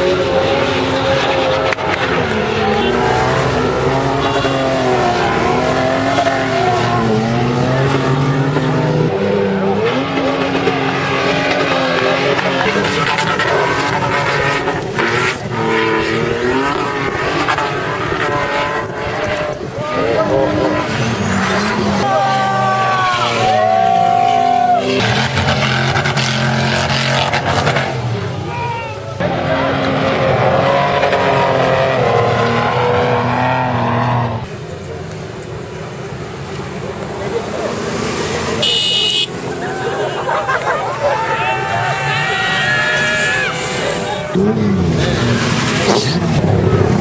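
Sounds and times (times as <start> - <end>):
suv engine revving hard: 0.0 - 28.5, 29.2 - 34.5, 37.4 - 40.6, 41.9 - 47.0.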